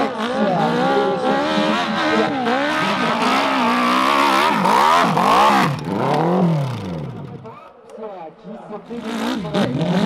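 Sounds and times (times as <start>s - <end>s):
dirt bike engine revving: 0.0s - 7.6s, 8.9s - 10.0s.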